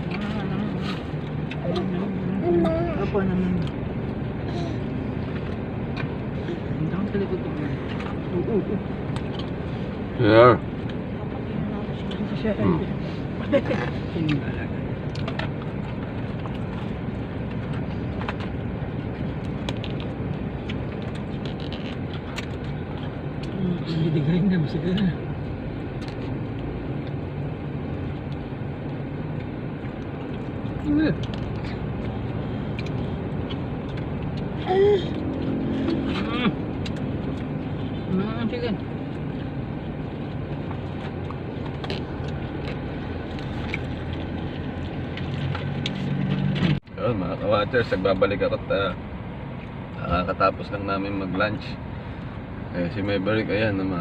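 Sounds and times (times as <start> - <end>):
car engine rumble inside cabin: 0.0 - 54.0.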